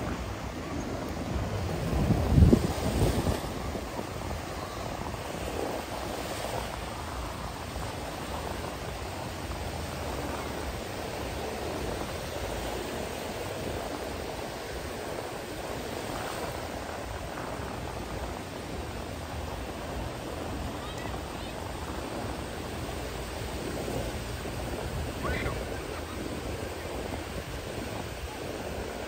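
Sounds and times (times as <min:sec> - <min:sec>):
beach surf rushing: 0:00.0 - 0:29.0.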